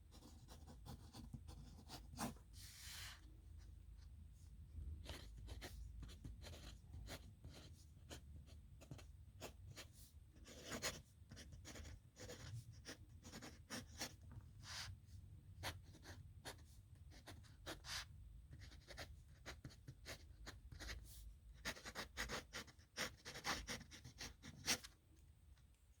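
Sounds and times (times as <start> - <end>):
pen scratching on paper: 0.1 - 3.0, 5.0 - 8.2, 8.8 - 14.9, 15.6 - 25.0.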